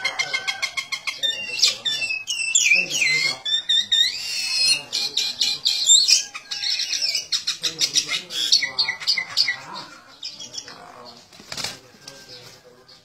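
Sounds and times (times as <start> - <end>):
birds squawking and chirping: 0.0 - 13.0.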